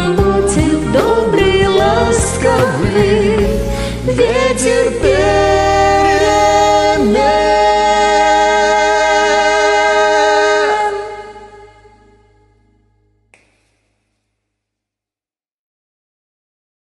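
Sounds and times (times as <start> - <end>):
backing track with bass: 0.0 - 13.9.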